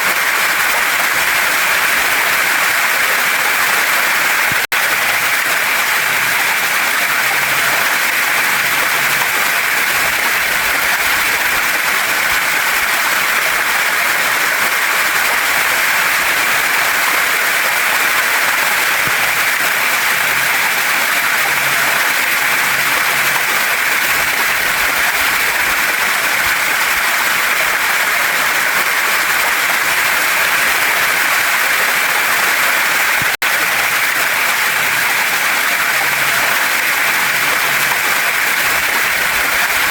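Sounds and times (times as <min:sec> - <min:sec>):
stream water pouring over rocks: 0:00.0 - 0:39.9.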